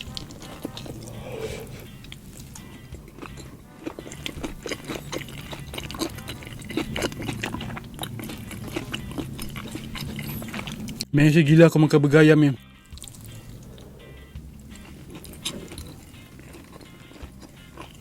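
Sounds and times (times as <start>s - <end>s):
chewing and mouth smacks: 0.0s - 11.1s, 12.9s - 18.0s.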